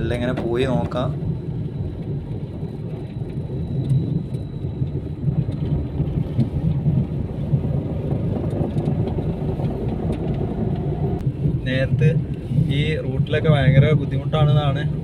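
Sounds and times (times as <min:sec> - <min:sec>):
car engine rumble and road noise: 0:00.0 - 0:15.0.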